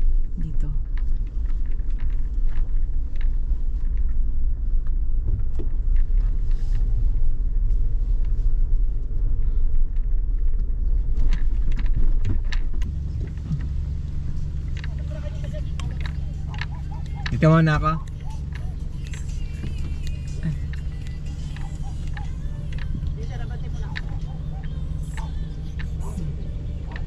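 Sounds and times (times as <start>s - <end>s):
car engine rumble: 0.0s - 27.0s.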